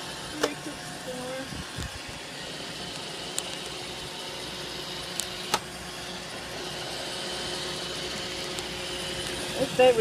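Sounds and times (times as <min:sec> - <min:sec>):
robot vacuum humming: 0:00.0 - 0:10.0.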